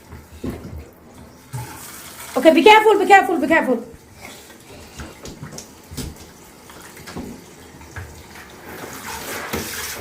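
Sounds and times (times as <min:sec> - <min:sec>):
shower water splashing: 0:00.0 - 0:10.0.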